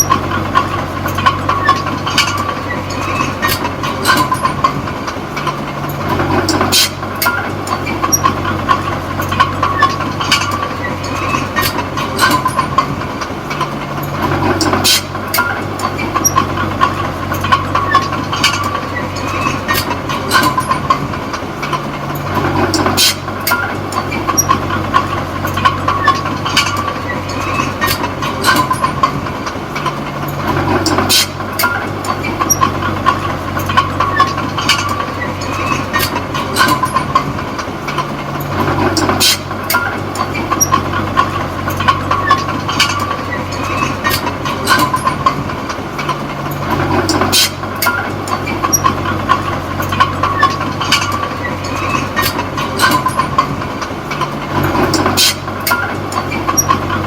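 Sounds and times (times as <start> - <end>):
bulldozer diesel engine under load: 0.0 - 57.0
steel tracks clanking and squealing: 0.0 - 57.0.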